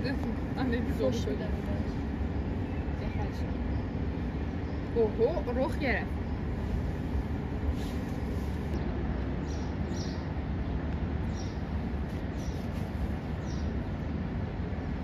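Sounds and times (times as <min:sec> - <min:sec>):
small birds chirping: 0:00.0 - 0:14.8
steady low rumble: 0:00.0 - 0:15.0.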